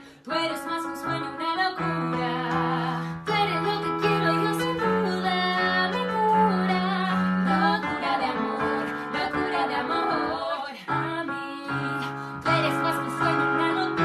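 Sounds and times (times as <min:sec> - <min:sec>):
woman singing with vibrato: 0:00.2 - 0:14.0
bass and keyboard accompaniment: 0:00.9 - 0:14.0.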